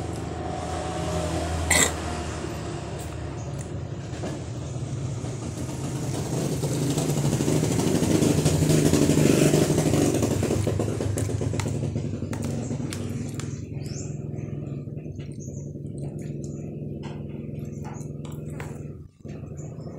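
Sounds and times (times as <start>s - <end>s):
engine humming: 0.0s - 19.9s.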